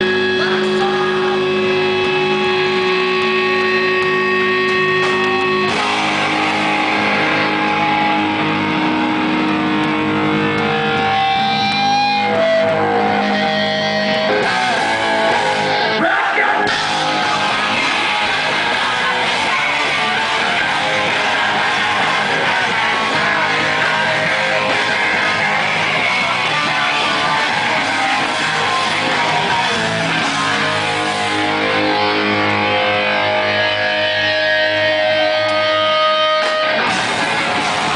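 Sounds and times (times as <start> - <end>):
punk band playing live: 0.0 - 37.9
ringing electric guitar notes: 0.0 - 37.9.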